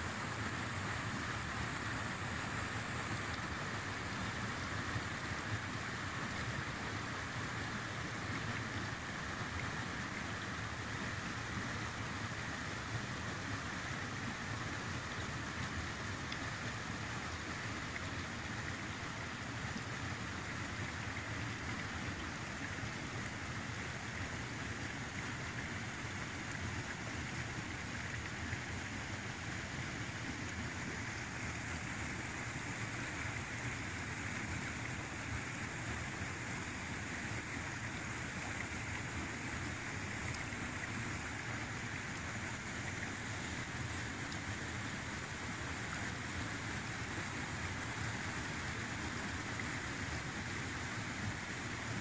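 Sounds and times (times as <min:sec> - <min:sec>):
river water rushing over rocks: 0:00.0 - 0:52.0.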